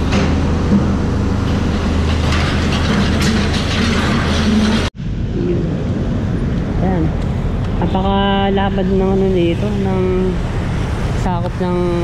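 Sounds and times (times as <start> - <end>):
vehicle road and engine noise: 0.0 - 12.0.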